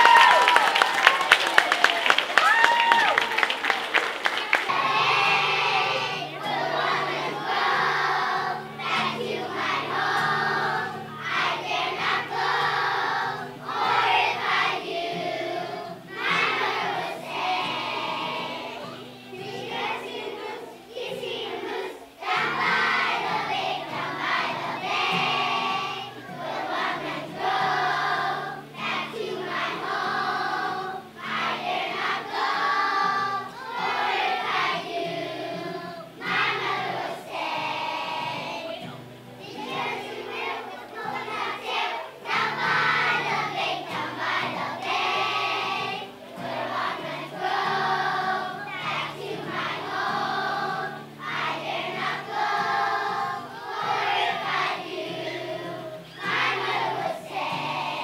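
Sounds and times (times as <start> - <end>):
children singing in chorus: 0.0 - 58.0.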